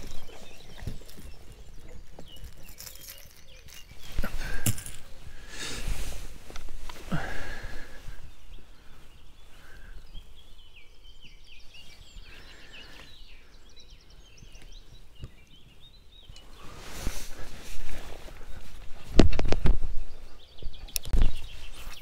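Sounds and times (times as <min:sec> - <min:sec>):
small bird chirping: 0:00.0 - 0:05.1, 0:08.1 - 0:18.8, 0:19.6 - 0:22.0
outdoor background noise: 0:00.0 - 0:22.0.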